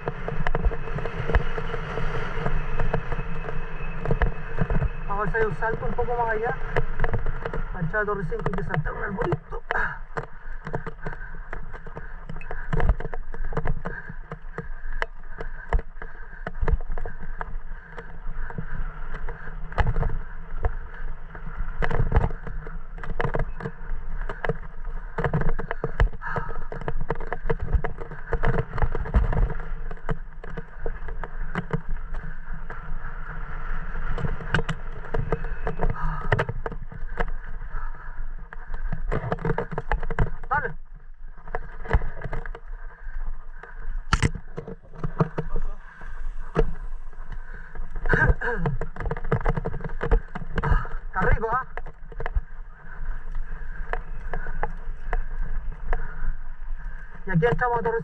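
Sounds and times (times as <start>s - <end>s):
bike knocking and rattling: 0.0s - 58.0s
tyres crunching over dirt and stones: 0.0s - 58.0s
wind noise on microphone: 0.0s - 58.0s.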